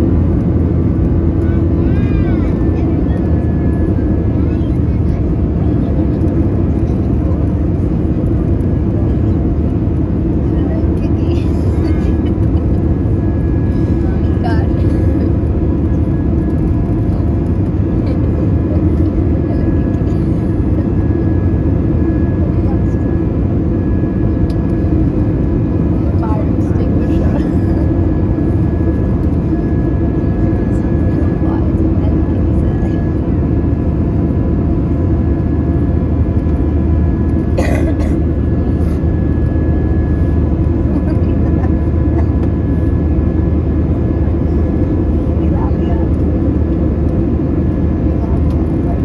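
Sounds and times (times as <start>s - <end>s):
jet engine cabin rumble: 0.0s - 49.0s.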